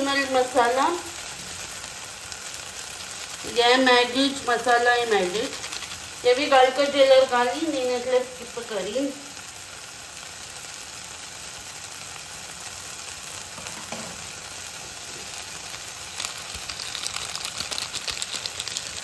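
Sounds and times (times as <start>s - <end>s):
masala sizzling in a pan: 0.0s - 19.0s.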